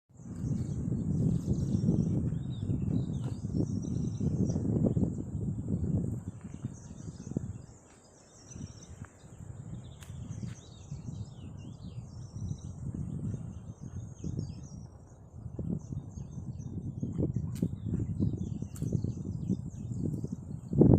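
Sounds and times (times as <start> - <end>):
small birds chirping: 0.1 - 20.9.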